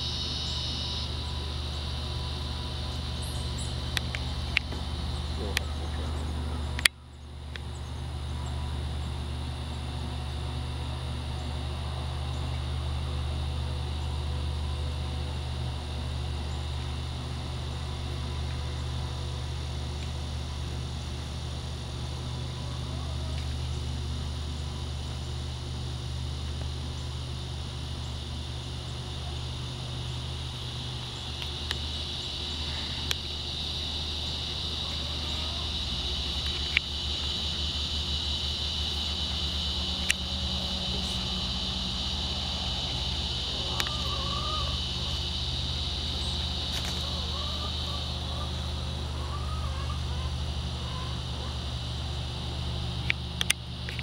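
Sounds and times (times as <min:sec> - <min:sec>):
insects singing: 0:00.0 - 0:54.0.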